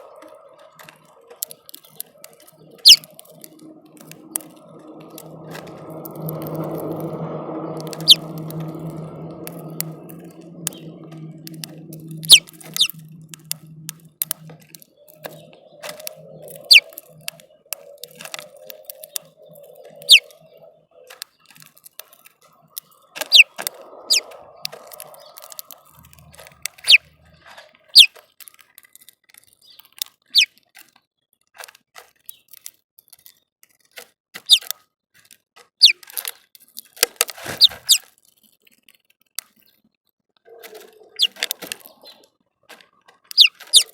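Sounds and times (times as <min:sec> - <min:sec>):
beaks pecking at seed: 0:00.0 - 0:30.9, 0:34.4 - 0:34.8, 0:35.8 - 0:38.1, 0:40.5 - 0:43.9
small birds chirping: 0:00.0 - 0:31.2, 0:32.2 - 0:33.5, 0:34.4 - 0:34.7, 0:35.8 - 0:38.0, 0:40.5 - 0:42.3, 0:43.0 - 0:43.9.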